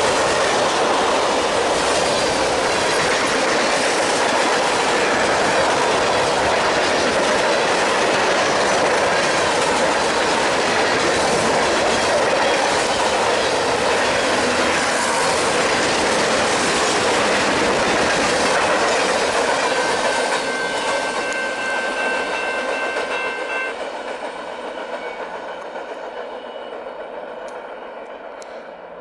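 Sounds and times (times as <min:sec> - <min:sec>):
train wheels rushing on rail: 0:00.0 - 0:29.0.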